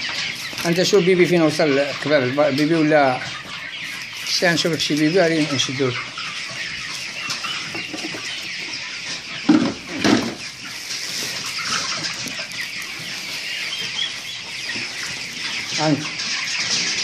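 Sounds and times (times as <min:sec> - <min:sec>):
chicks peeping and clucking: 0:00.0 - 0:17.0.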